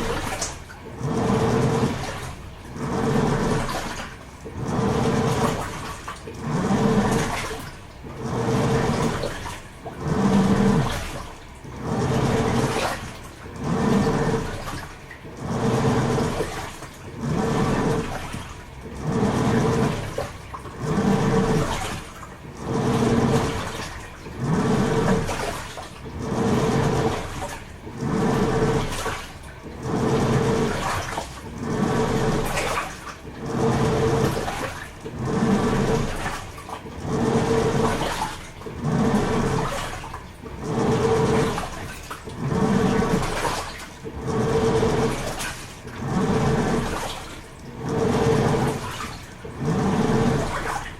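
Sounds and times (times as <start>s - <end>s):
washing machine motor hum: 0.0s - 50.9s
water swishing: 0.0s - 50.9s.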